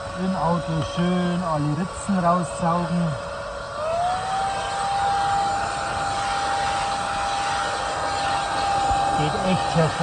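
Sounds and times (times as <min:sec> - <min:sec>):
rushing air: 0:00.0 - 0:10.0
vacuum cleaner motor whine: 0:00.0 - 0:10.0.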